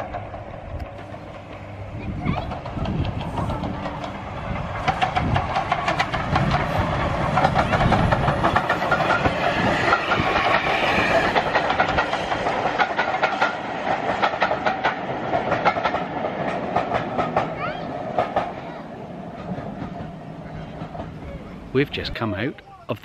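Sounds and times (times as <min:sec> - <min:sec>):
train wheels clicking over rail joints: 0:00.0 - 0:22.0.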